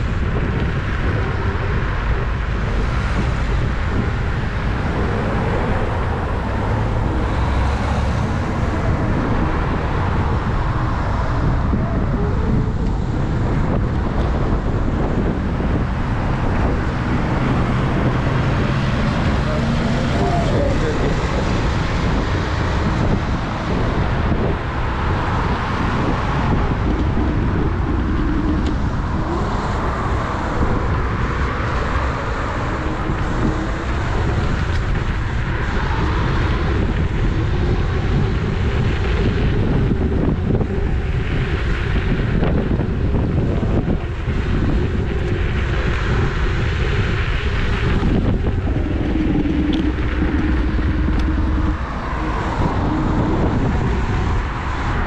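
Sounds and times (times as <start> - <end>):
scooter tyre and road noise: 0.0 - 55.0
wind rush on microphone: 0.0 - 55.0.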